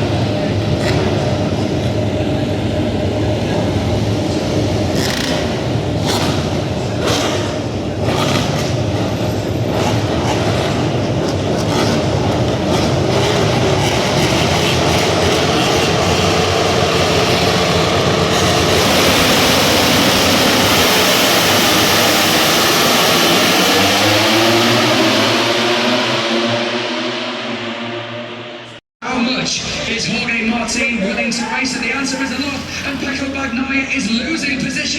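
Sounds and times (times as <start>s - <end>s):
racing motorcycles passing: 0.0s - 28.8s, 29.8s - 34.9s.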